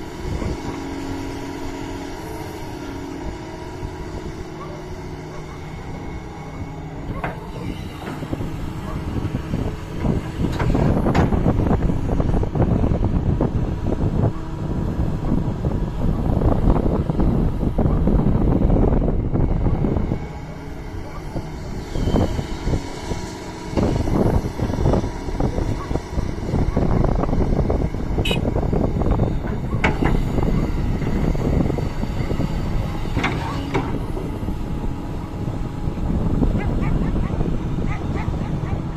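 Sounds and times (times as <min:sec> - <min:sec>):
excavator diesel engine: 0:00.0 - 0:38.9
wind buffeting microphone: 0:00.0 - 0:38.9.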